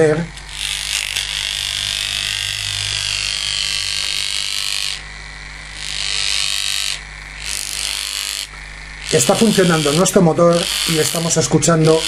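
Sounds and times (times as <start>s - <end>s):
magnets buzzing and rattling: 0.0s - 12.0s.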